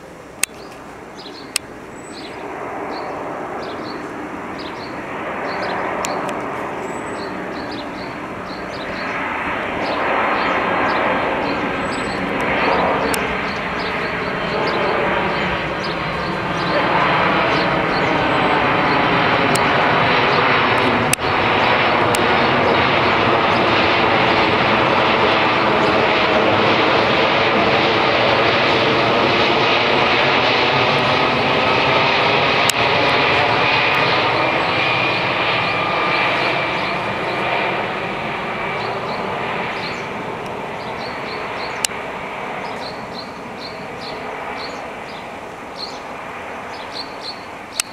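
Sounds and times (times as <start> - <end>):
high jet whine: 0.0 - 47.9
jet airplane roaring overhead: 0.0 - 47.9.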